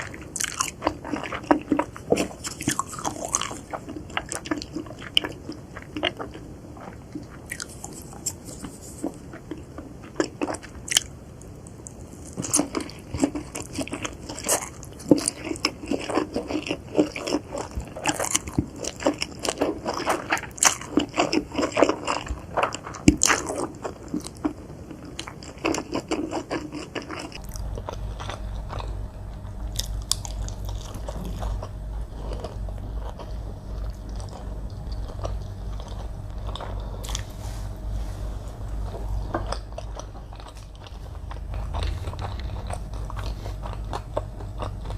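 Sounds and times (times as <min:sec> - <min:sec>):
crunchy chewing: 0:00.0 - 0:44.9
steady low hum: 0:00.0 - 0:44.9.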